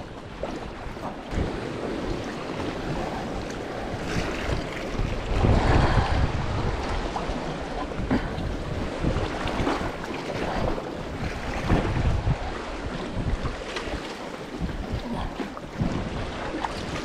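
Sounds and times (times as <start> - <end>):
paddle splashing water: 0.0 - 17.0
wind noise on microphone: 0.0 - 17.0.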